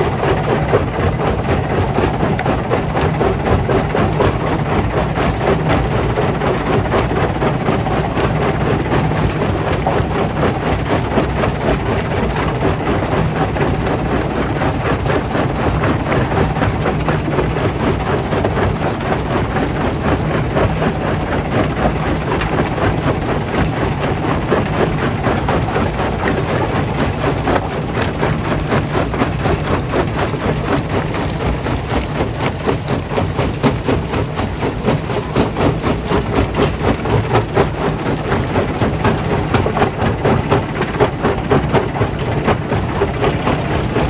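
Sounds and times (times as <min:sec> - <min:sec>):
motor hum: 0:00.0 - 0:44.0.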